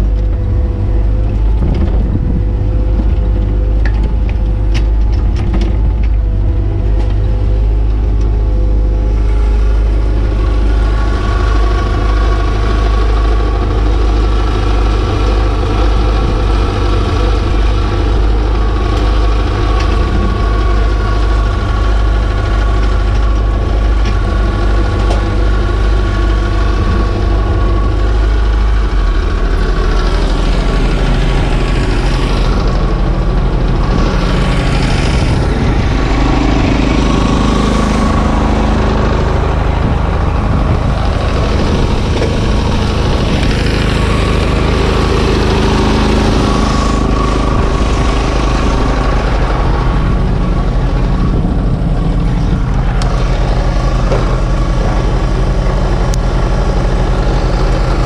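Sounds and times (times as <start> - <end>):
diesel engine running: 0.0 - 58.0
hydraulic whine: 0.0 - 58.0.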